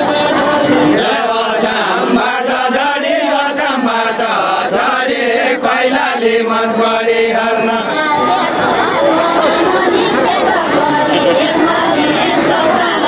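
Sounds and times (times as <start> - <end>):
voices chanting a folk song: 0.0 - 13.0.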